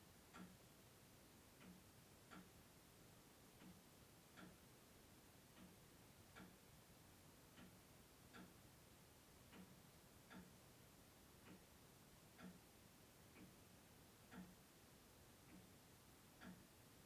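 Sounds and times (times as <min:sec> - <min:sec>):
clock ticking: 0:00.3 - 0:00.7, 0:01.5 - 0:02.6, 0:03.3 - 0:17.0.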